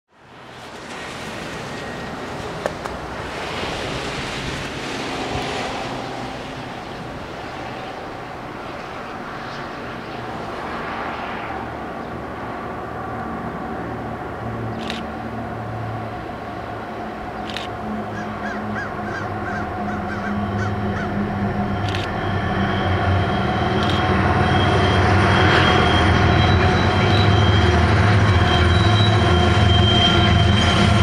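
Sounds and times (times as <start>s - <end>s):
distant locomotive engine drone: 0.1s - 31.0s
rushing noise: 0.1s - 31.0s.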